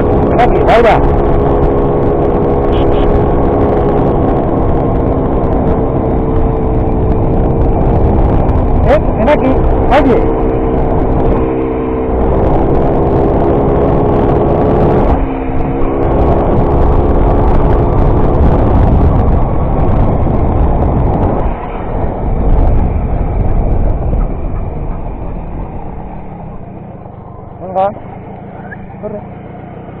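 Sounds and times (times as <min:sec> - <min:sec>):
wind rush on microphone: 0:00.0 - 0:30.0.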